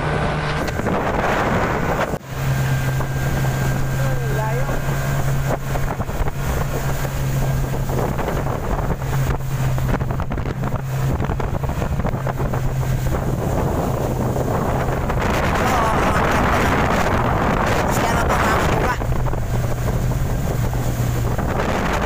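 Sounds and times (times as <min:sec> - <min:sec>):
outboard motor humming: 0:00.0 - 0:22.0
wind buffeting microphone: 0:00.0 - 0:22.0.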